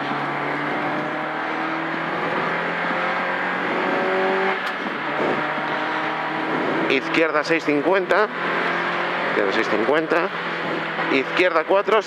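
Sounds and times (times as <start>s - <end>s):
car engine revving high: 0.0s - 12.0s.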